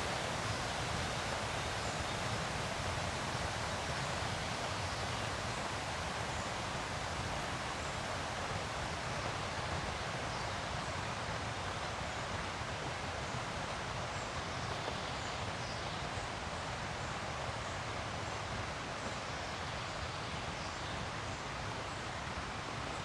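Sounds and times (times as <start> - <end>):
river water rushing over rapids: 0.0 - 23.0.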